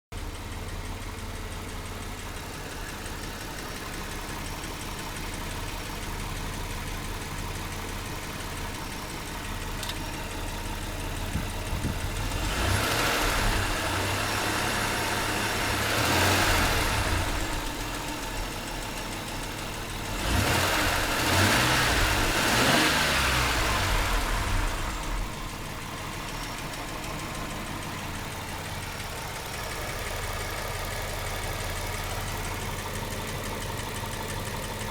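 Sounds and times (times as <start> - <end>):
car engine idling and revving: 0.1 - 34.9
engine knock: 0.1 - 34.9.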